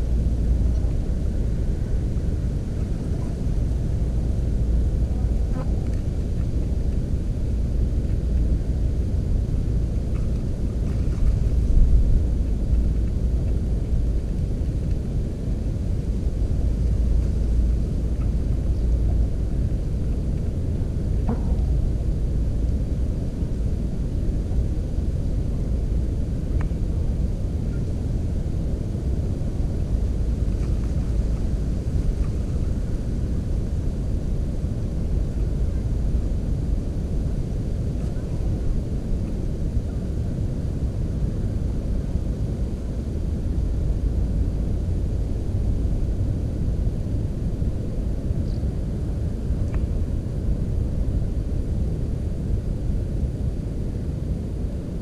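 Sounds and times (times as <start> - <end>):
low rumbling noise: 0.0 - 55.0.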